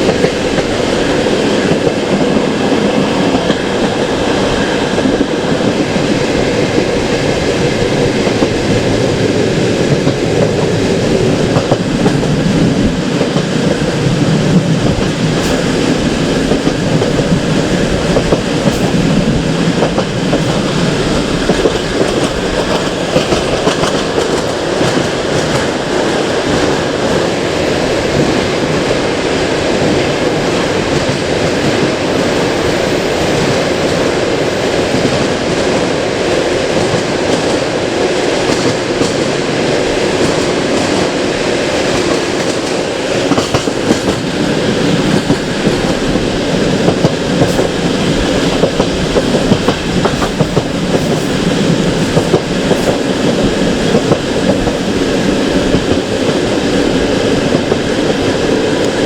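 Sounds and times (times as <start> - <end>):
rail joint clacks: 0.0 - 27.3, 28.1 - 59.0
train wheels rumbling on rails: 0.0 - 59.0.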